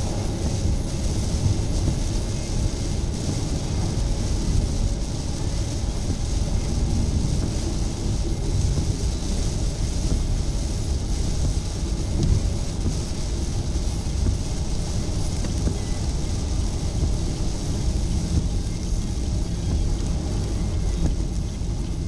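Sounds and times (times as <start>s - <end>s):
car road rumble: 0.0s - 22.0s
rain and wet tyres hissing: 0.0s - 22.0s.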